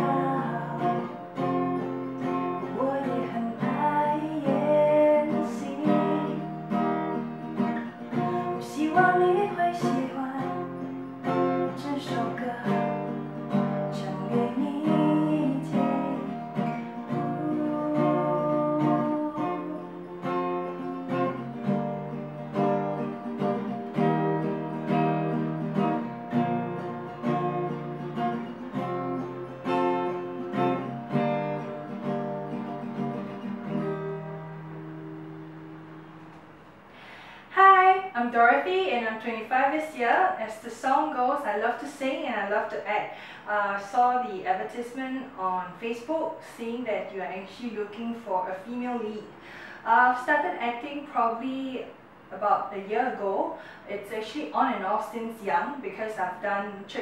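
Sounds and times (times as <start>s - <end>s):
acoustic guitar strumming: 0.0s - 49.4s.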